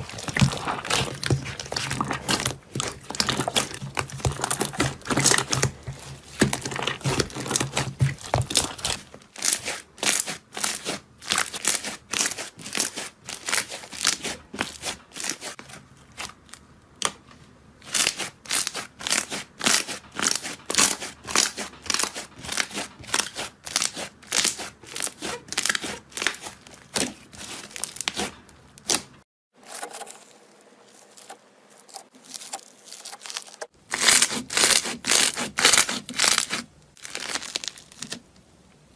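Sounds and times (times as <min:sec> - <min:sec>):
slime squelching crackles: 0:00.0 - 0:38.4.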